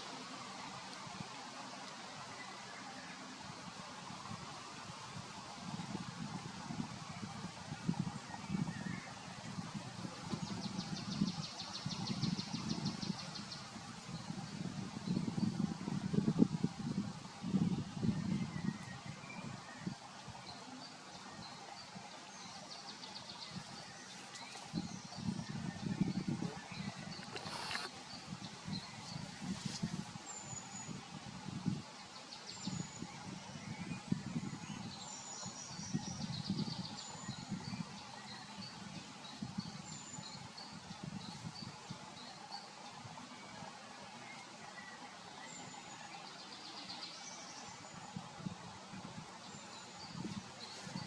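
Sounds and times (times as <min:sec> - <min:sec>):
steady outdoor hiss: 0:00.0 - 0:51.0
small birds chirping: 0:07.1 - 0:51.0.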